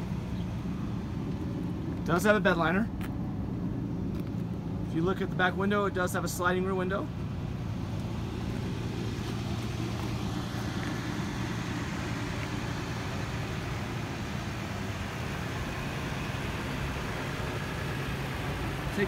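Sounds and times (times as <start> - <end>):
outdoor noise: 0.0 - 19.0
vehicle engine idling: 0.0 - 19.0.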